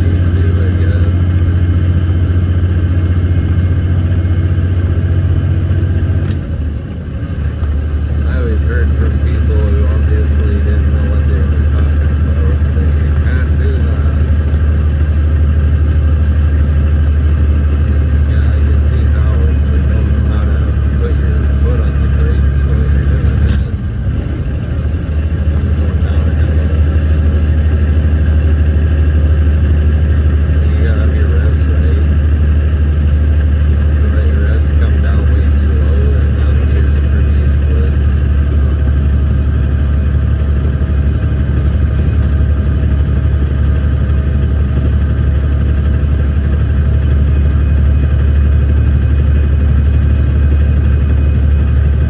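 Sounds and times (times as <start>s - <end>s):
truck diesel engine droning: 0.0s - 52.0s.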